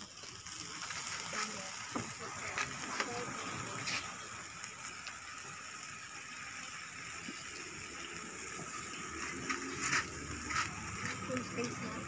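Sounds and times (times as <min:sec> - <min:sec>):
meat sizzling on charcoal grill: 0:00.0 - 0:12.0.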